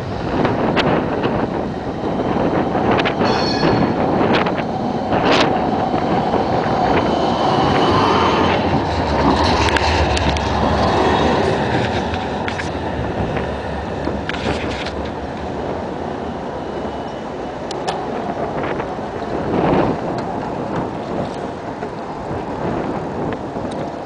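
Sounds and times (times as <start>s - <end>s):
tram rumbling past: 0.0s - 24.0s.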